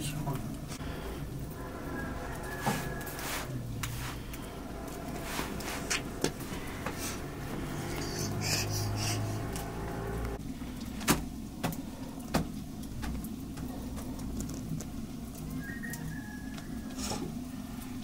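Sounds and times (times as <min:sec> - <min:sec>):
fire low rumble: 0:00.0 - 0:18.0.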